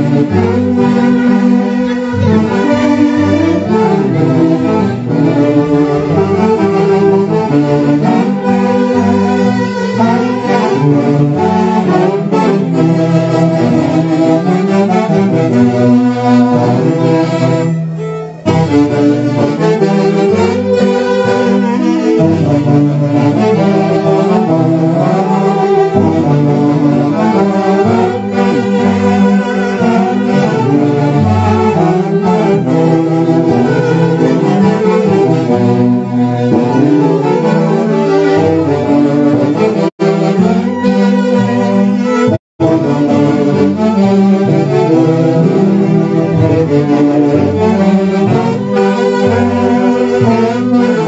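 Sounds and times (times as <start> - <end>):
bass line: 0.0 - 51.0
bowed strings melody: 0.0 - 51.0
wind instruments: 0.0 - 51.0.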